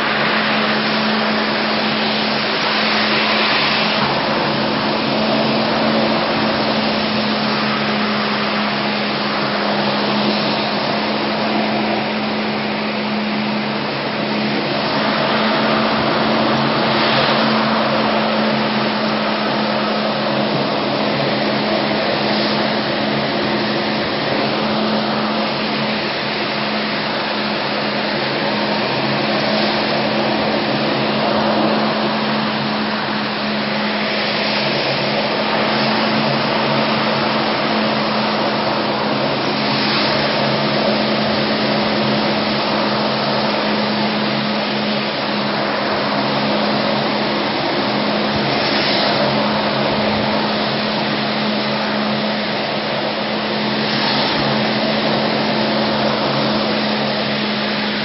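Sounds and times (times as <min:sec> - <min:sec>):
floor cleaning machine running: 0:00.0 - 0:58.0.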